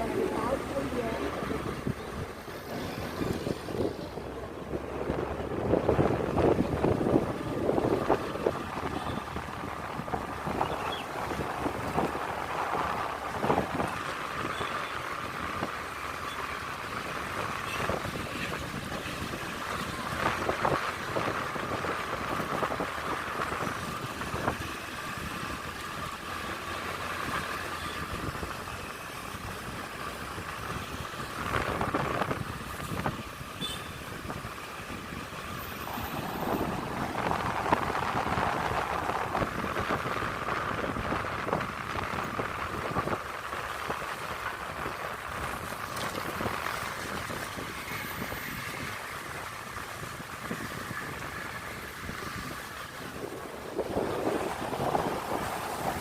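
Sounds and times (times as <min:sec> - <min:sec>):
wind buffeting microphone: 0:00.0 - 0:14.6, 0:16.7 - 0:56.0.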